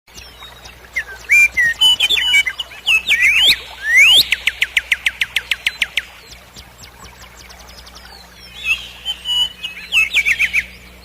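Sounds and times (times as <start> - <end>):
songbird singing: 0.1 - 11.0.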